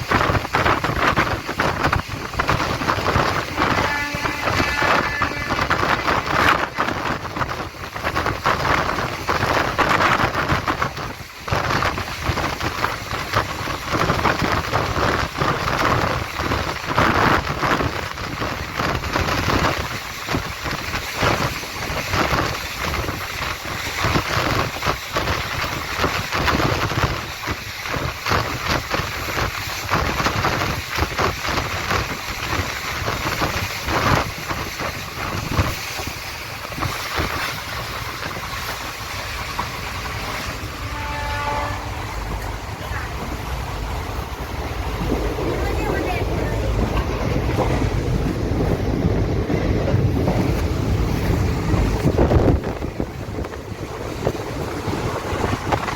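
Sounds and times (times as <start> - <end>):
train rumbling on tracks: 0.0 - 55.9
wheels clattering over rails: 0.0 - 55.9.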